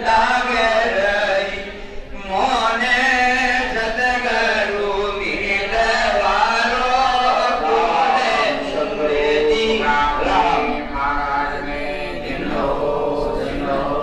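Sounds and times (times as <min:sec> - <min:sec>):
crowd chanting in unison: 0:00.0 - 0:14.0.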